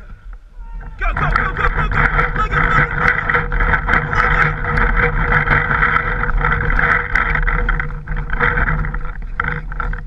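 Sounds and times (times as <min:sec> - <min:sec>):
muffled rush: 0:00.0 - 0:10.0.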